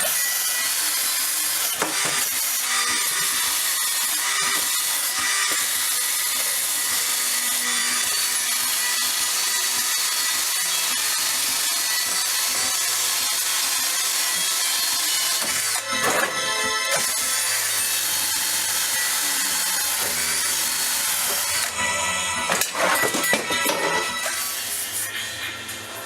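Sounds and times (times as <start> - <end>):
abrasive power tool running: 0.0 - 26.0.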